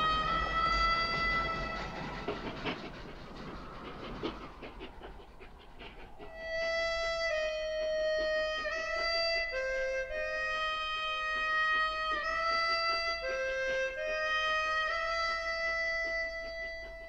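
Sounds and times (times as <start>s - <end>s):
harmonica long notes: 0.0s - 3.9s, 6.2s - 17.0s.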